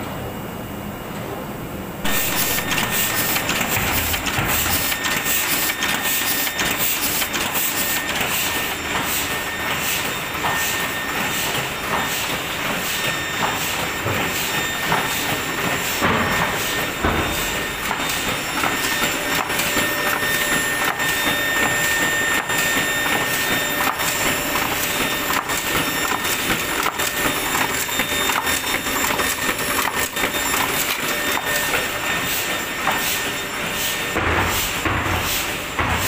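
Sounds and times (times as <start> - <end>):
printing press clatter: 2.0 - 36.0.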